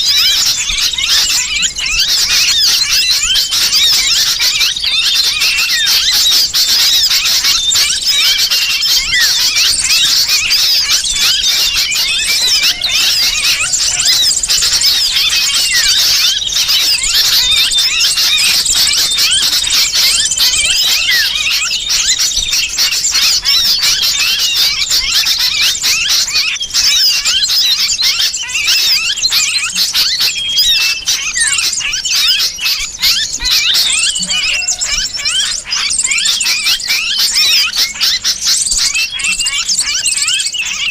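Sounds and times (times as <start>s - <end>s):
bird distress calls: 0.0s - 40.9s
small birds chattering: 0.0s - 40.9s.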